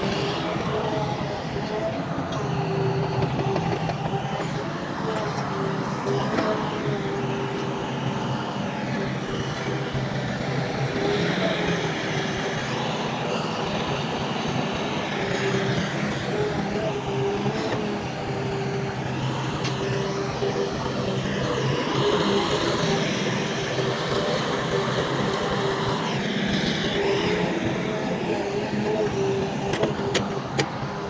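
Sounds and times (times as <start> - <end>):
heavy diesel machinery whining: 0.0 - 31.0.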